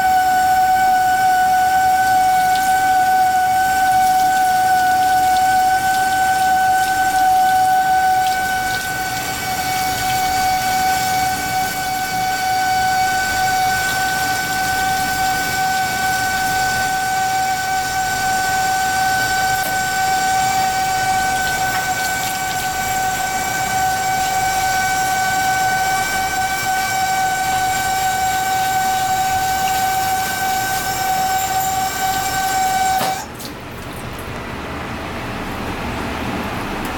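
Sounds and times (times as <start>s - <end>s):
tap water running into sink: 0.0s - 34.3s.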